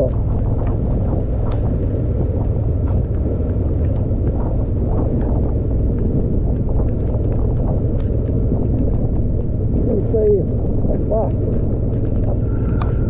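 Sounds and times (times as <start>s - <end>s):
motorcycle engine rumble: 0.0s - 13.0s
raindrops ticking: 0.0s - 13.0s
wind on microphone: 0.0s - 13.0s.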